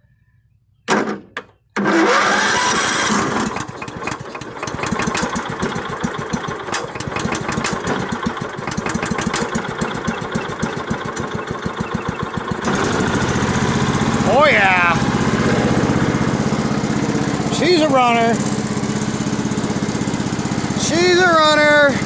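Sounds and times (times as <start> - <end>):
sawmill engine starting and running: 1.8 - 22.0.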